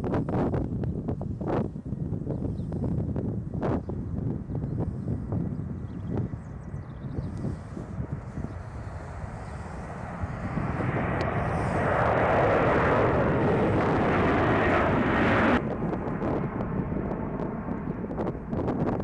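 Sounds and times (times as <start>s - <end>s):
jet airliner passing: 0.0s - 19.0s
low wind rumble on microphone: 0.0s - 19.0s.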